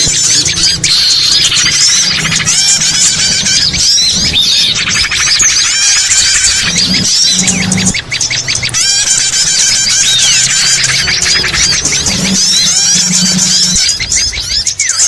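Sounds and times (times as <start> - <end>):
faint low hum: 0.0 - 14.7
songbirds chirping and twittering: 0.0 - 15.0.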